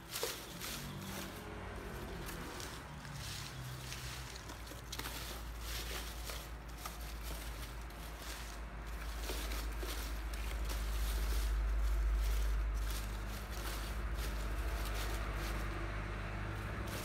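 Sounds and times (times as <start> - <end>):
dry leaves rustling: 0.0 - 17.0
low steady rumble: 0.0 - 17.0.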